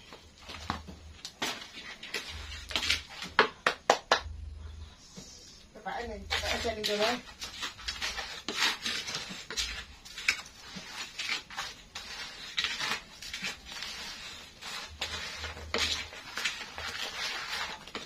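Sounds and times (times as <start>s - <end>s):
spatula scraping in a wok: 0.0s - 3.4s, 4.9s - 18.0s.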